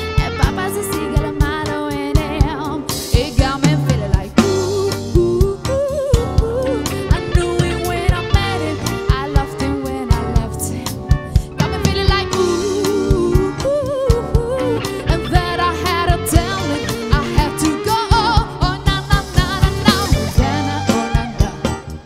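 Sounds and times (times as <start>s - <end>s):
drum kit steady beat: 0.0s - 22.0s
strummed electric guitar: 0.0s - 22.0s
woman singing with vibrato: 0.1s - 22.0s.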